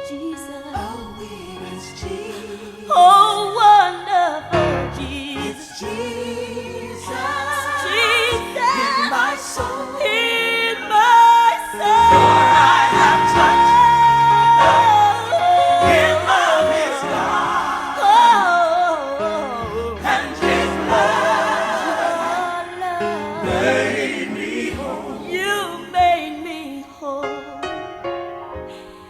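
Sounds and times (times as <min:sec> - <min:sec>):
person singing gospel: 0:00.0 - 0:27.8
keyboard chords: 0:03.3 - 0:29.0.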